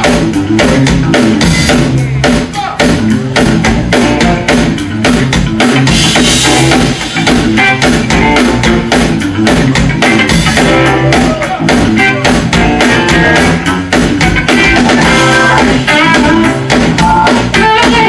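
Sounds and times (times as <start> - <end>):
drum kit beat: 0.0 - 18.0
electric bass: 0.0 - 18.0
electric guitar: 0.0 - 18.0.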